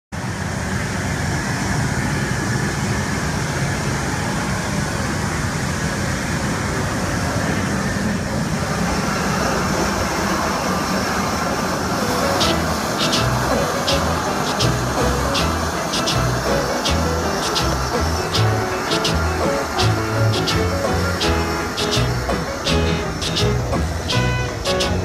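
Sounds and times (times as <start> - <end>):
engines roaring: 0.3 - 25.0.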